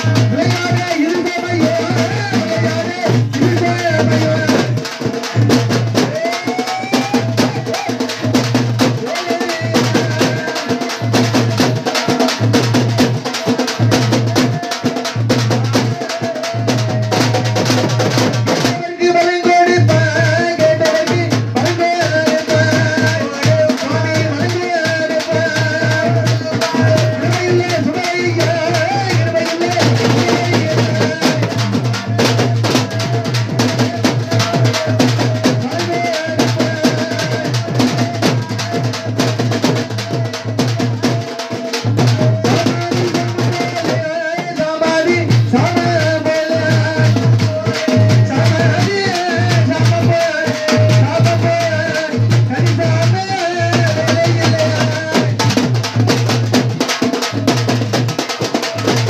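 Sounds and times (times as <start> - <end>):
drums playing fast rhythm: 0.0 - 59.0.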